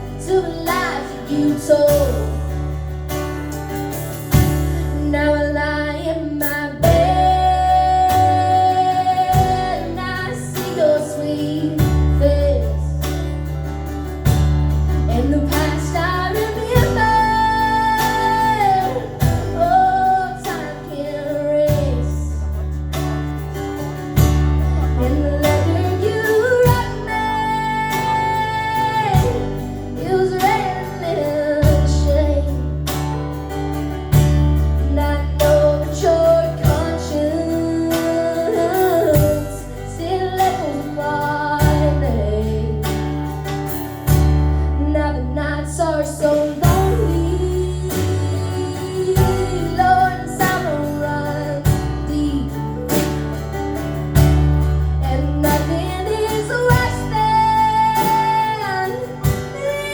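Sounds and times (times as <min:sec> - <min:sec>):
girl singing: 0:00.0 - 0:02.6, 0:04.6 - 0:13.3, 0:15.1 - 0:22.6, 0:24.7 - 0:33.0, 0:34.9 - 0:43.2, 0:44.8 - 0:53.2, 0:55.0 - 0:59.9
acoustic string band playing: 0:00.0 - 0:59.9
guitar: 0:00.0 - 0:59.9.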